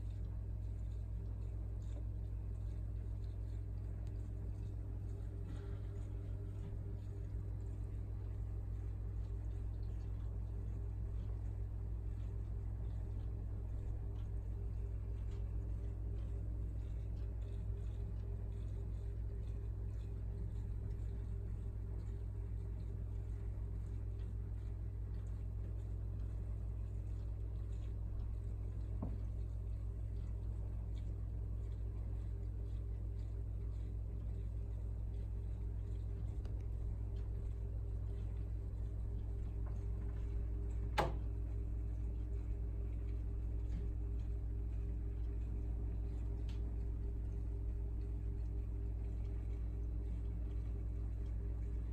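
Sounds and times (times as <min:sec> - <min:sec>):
aquarium equipment hum: 0:00.0 - 0:51.9.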